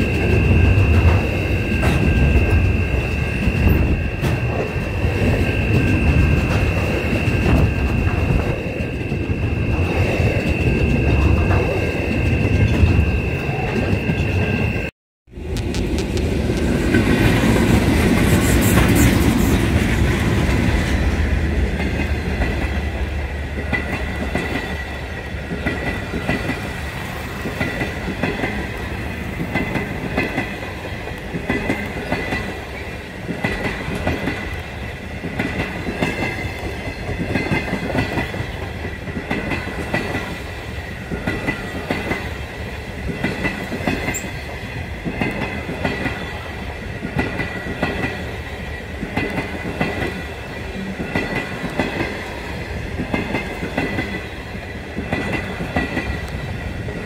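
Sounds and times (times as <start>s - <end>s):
train wheels clickety-clack: 0.0s - 14.9s, 15.6s - 57.0s
diesel locomotive engine: 0.0s - 57.0s.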